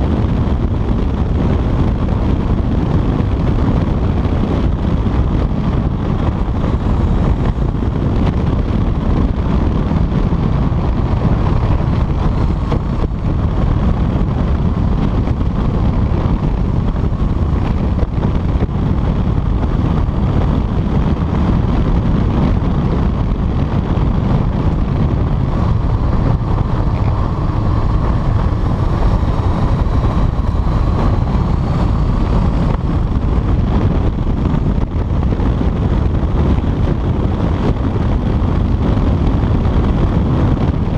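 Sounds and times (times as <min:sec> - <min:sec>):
faint motorcycle engine: 0:00.0 - 0:40.9
loud wind rushing: 0:00.0 - 0:40.9.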